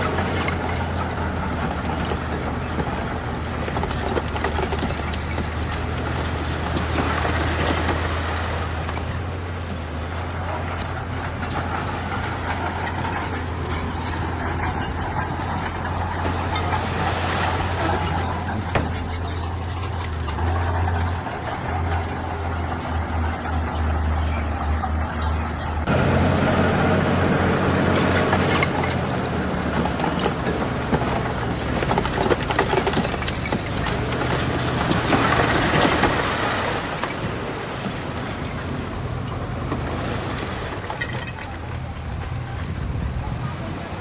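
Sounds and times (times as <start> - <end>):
diesel construction machinery running: 0.0 - 44.0.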